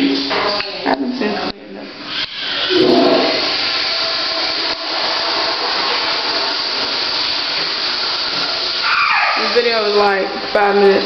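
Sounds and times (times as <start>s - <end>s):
toilet flushing: 0.0s - 11.0s.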